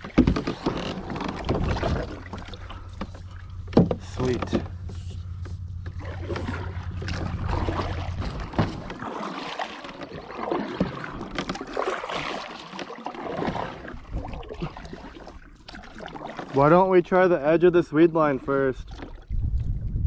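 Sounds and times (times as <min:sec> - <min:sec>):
kayak paddle strokes in water: 0:00.0 - 0:19.8
low steady hum: 0:00.0 - 0:20.0.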